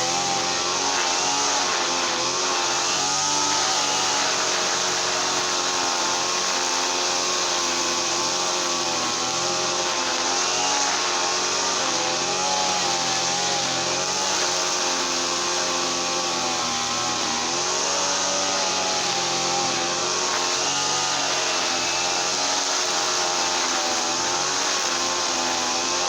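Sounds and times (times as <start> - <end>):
brush cutter engine running: 0.0 - 26.0.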